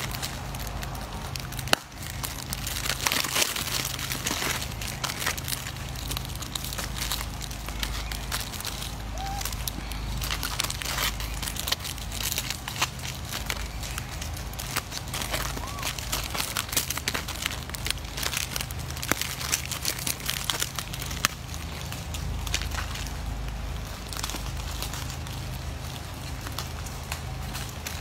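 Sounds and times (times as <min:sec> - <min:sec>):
plastic wrappers crinkling: 0:00.0 - 0:28.0.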